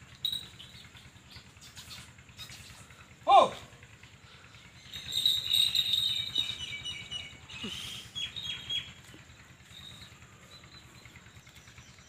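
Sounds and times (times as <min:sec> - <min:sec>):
bird chirping: 0:00.2 - 0:02.9, 0:04.2 - 0:12.0.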